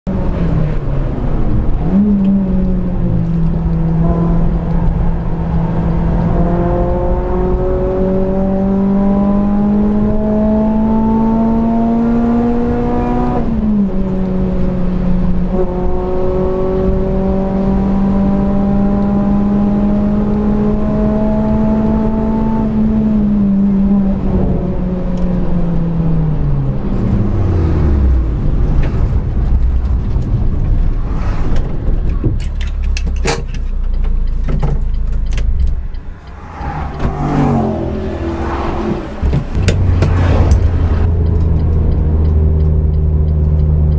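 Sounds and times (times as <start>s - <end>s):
car engine heard from inside cabin: 0.1s - 43.9s.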